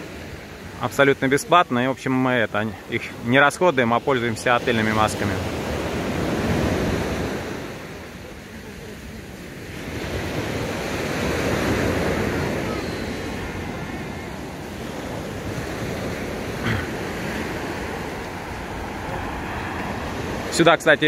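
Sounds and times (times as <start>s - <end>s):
small waves breaking on beach: 0.0s - 21.0s.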